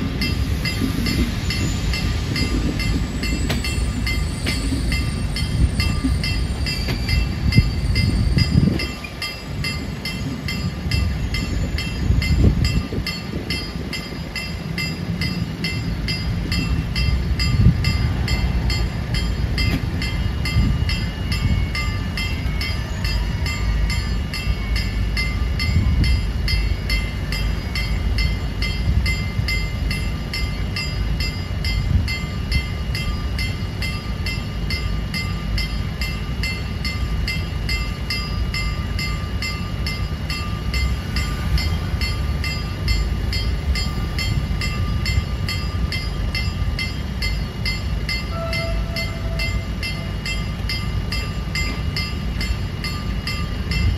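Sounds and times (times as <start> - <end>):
level crossing warning bell: 0.0 - 53.9
train coaches rumbling past: 0.0 - 53.9.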